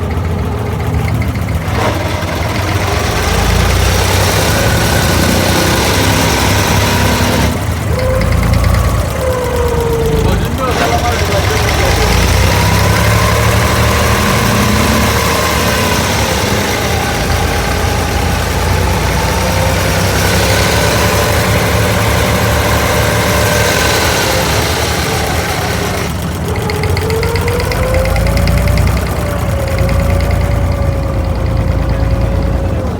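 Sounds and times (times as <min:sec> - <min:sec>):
boat diesel engine humming: 0:00.0 - 0:32.9.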